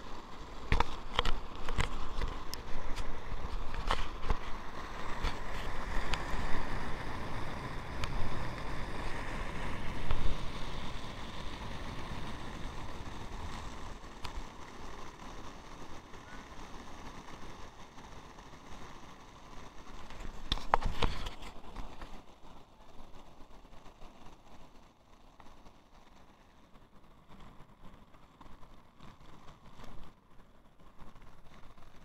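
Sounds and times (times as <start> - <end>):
skate wheels rolling on asphalt: 0.0 - 32.0.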